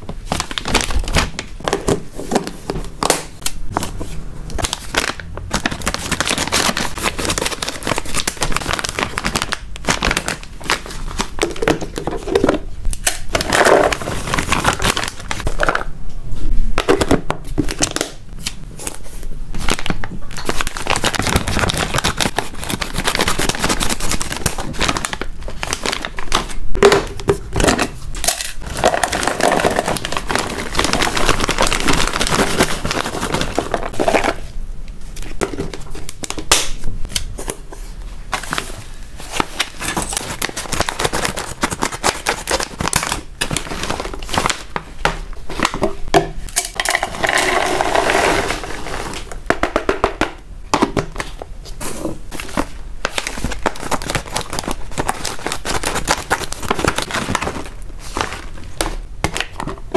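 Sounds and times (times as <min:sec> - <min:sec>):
plastic packaging crinkling and tearing: 0:00.0 - 0:15.9, 0:17.6 - 0:36.8, 0:38.4 - 0:45.8, 0:46.8 - 0:49.4, 0:51.2 - 0:59.8.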